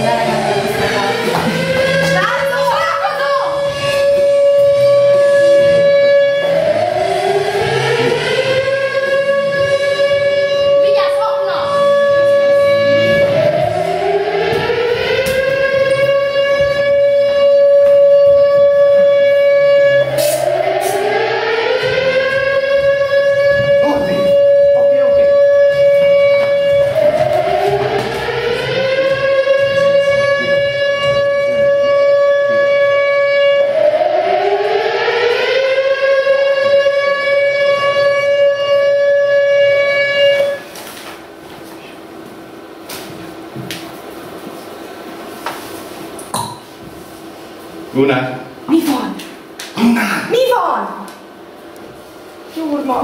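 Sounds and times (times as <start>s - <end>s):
air-raid siren wailing: 0.0s - 49.6s.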